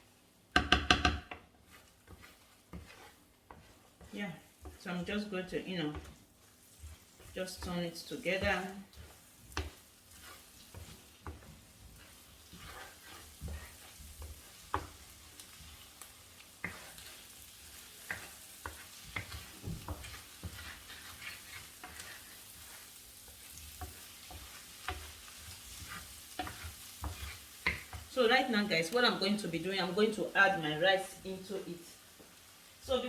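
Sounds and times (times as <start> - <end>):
food sizzling in a frying pan: 0.0 - 33.0
utensil scraping and tapping a pan: 0.5 - 28.1.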